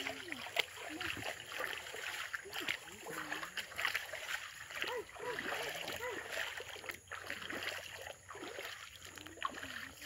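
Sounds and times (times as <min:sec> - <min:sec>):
stream trickling over stones: 0:00.0 - 0:10.0.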